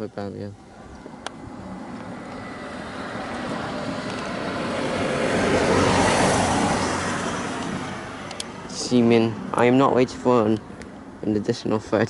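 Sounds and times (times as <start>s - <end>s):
vehicle passing close by: 0.6s - 12.0s.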